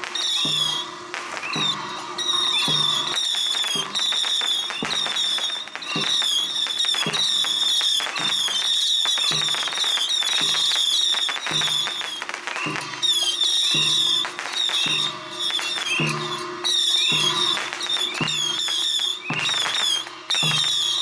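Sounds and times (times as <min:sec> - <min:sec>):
firecrackers crackling pops: 0:00.0 - 0:21.0
shrill wavering high tone: 0:00.1 - 0:21.0.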